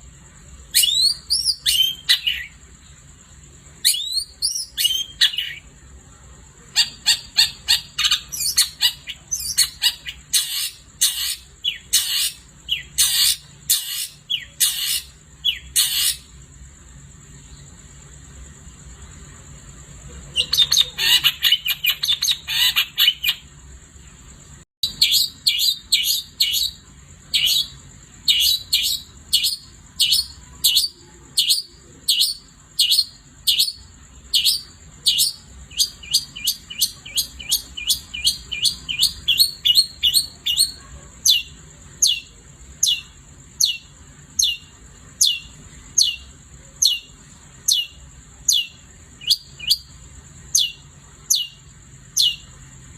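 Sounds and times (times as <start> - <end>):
shrike singing: 0.0 - 52.9.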